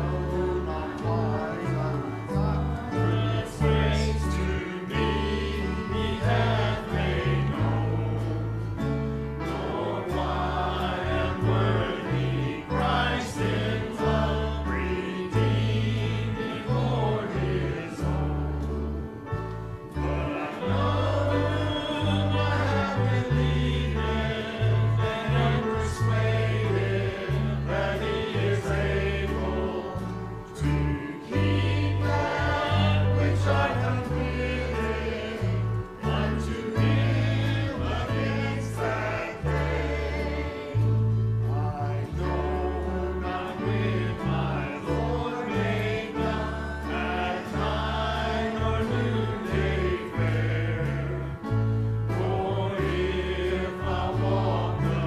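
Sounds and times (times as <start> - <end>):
congregation singing a hymn: 0.0 - 55.0
instrumental accompaniment: 0.0 - 55.0.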